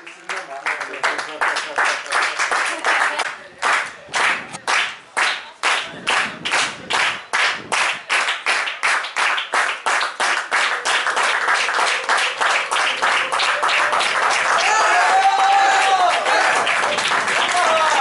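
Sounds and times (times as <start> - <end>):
group clapping in unison: 0.0 - 18.0.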